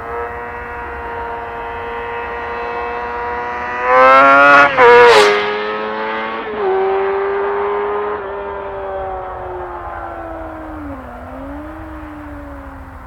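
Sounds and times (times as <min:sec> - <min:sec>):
motorcycle revving past: 0:00.0 - 0:13.0.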